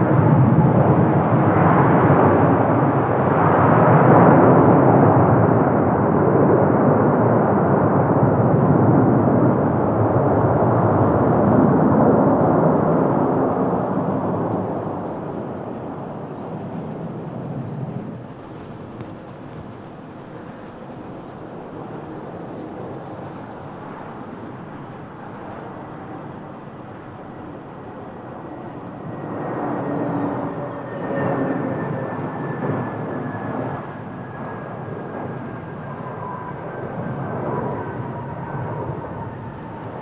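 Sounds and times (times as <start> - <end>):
jet engine whine: 0.0 - 40.0
jet plane passing: 0.0 - 40.0.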